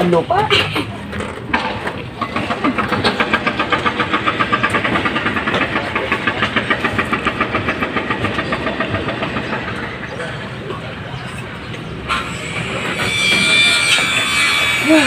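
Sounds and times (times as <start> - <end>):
small engine running: 2.2 - 15.0.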